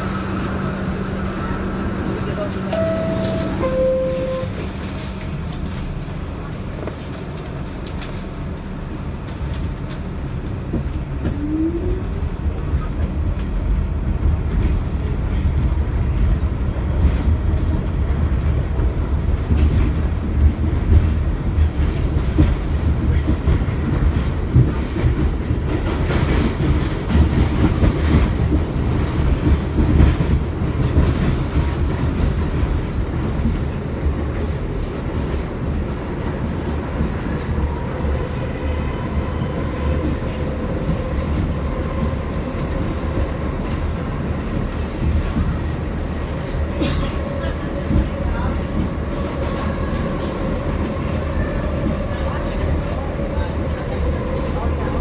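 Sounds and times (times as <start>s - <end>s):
subway car rumble: 0.0s - 55.0s.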